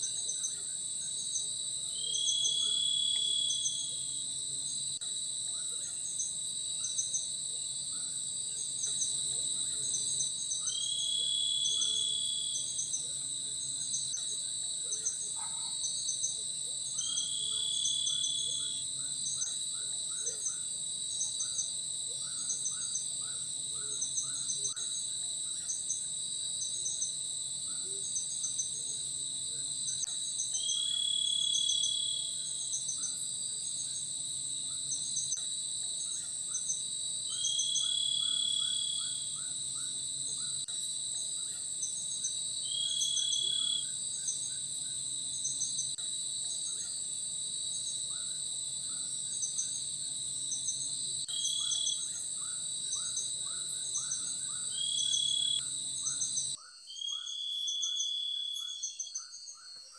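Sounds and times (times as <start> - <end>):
short repeated insect chirps: 0.0 - 4.9, 8.7 - 14.3, 15.0 - 59.9
insects trilling: 0.0 - 59.9
louder clear insect call: 0.0 - 59.9.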